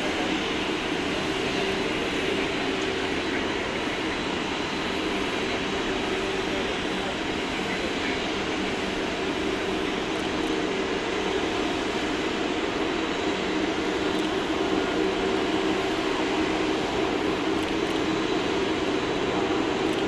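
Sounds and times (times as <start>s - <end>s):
jet engines humming: 0.0s - 20.0s.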